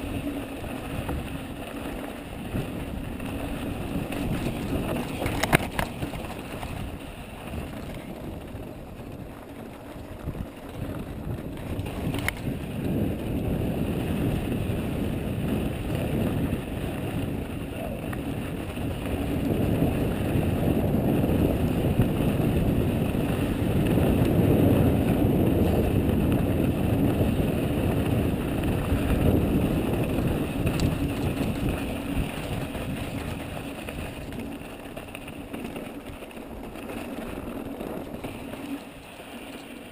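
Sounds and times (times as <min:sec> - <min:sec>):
bike tyres rolling on dirt: 0:00.0 - 0:39.9
wind buffeting microphone: 0:00.0 - 0:39.9.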